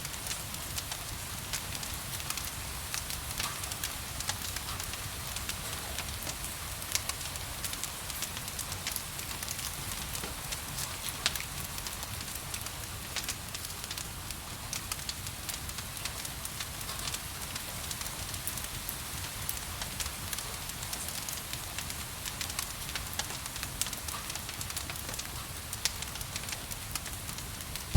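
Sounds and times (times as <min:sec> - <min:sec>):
gentle rain hiss: 0:00.0 - 0:27.9
wood fire crackling: 0:00.1 - 0:20.4, 0:21.1 - 0:27.9.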